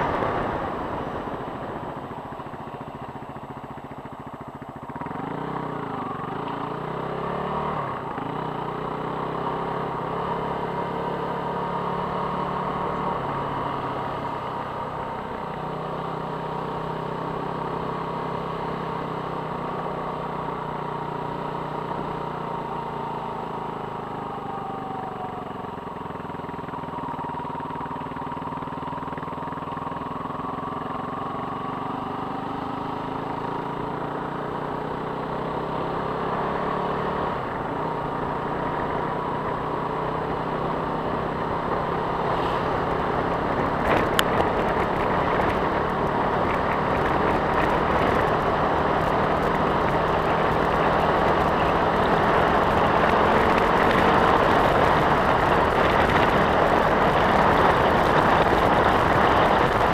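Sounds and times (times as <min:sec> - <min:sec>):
tyres on gravel road: 0:00.0 - 0:16.0, 0:25.1 - 0:59.9
vehicle engine running: 0:00.0 - 0:16.9, 0:19.4 - 0:59.9.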